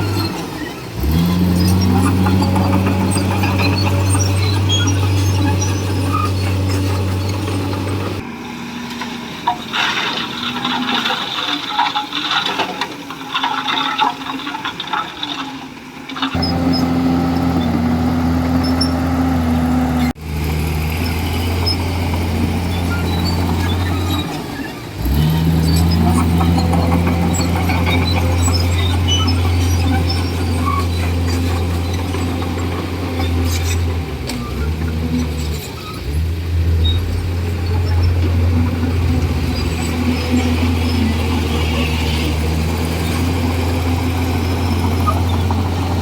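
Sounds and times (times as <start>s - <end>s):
metallic squealing and clattering: 0.0s - 8.2s, 16.3s - 20.2s, 20.9s - 46.0s
bulldozer diesel engine droning: 0.0s - 12.5s, 16.4s - 46.0s.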